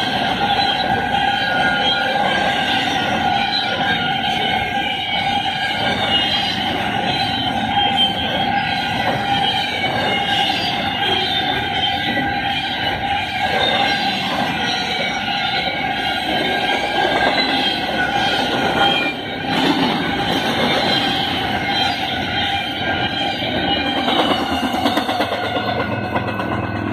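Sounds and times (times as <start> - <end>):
high-pitched ringing tones: 0.0 - 26.9
train wheels rumbling on rail: 0.0 - 26.9.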